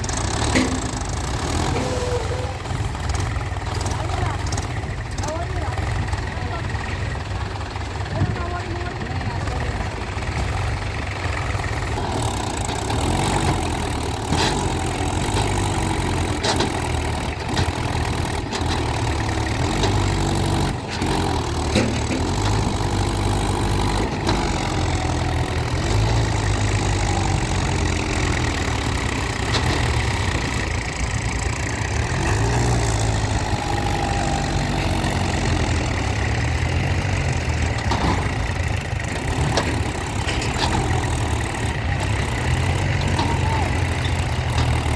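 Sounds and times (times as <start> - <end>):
tractor diesel engine revving: 0.0 - 44.9.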